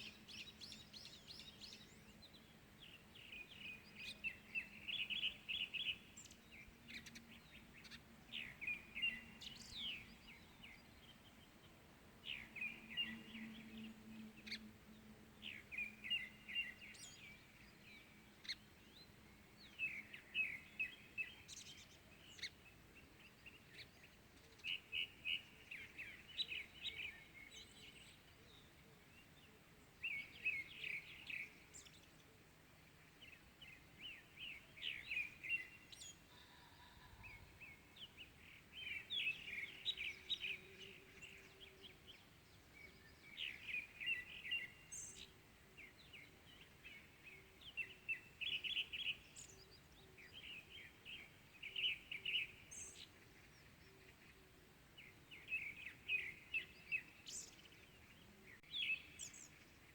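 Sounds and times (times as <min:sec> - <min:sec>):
faint outdoor background noise: 0:00.0 - 0:59.9
small songbirds chirping: 0:00.0 - 0:59.9.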